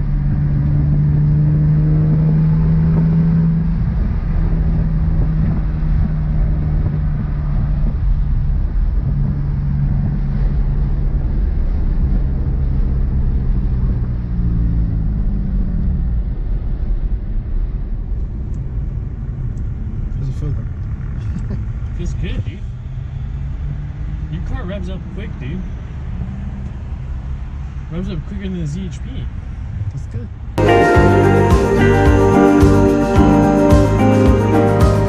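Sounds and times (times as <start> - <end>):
car engine accelerating: 0.0 - 28.3, 30.6 - 35.0
road noise: 0.0 - 35.0.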